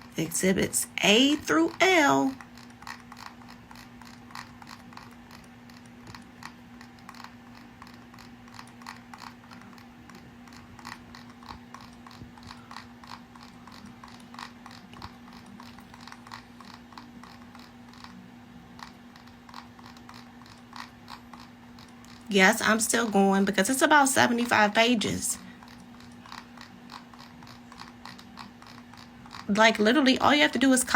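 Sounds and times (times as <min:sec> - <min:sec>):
steady low hum: 0:00.0 - 0:30.9
mouse scroll wheel clicking: 0:01.2 - 0:18.2, 0:18.8 - 0:23.1, 0:25.6 - 0:29.9.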